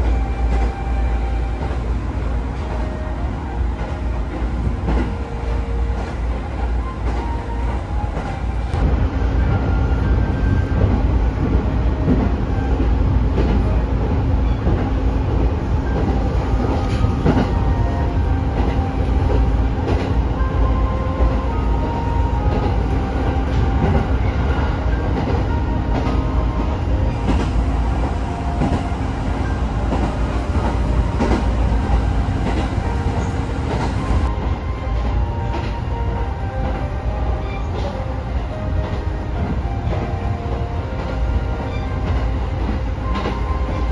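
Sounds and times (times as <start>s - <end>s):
train rumble: 0.0s - 43.9s.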